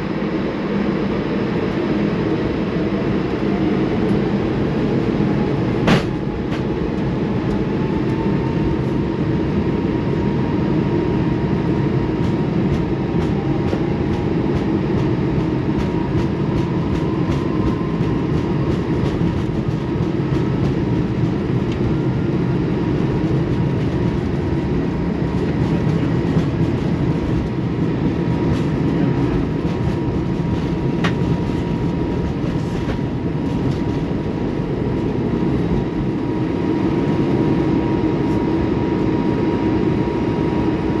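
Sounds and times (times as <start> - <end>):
jet engines rushing: 0.0 - 41.0.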